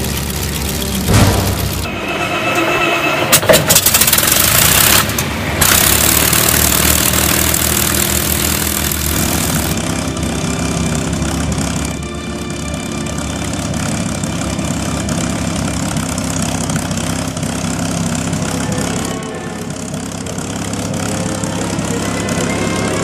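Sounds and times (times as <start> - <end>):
propeller plane engine starting: 0.0 - 23.0.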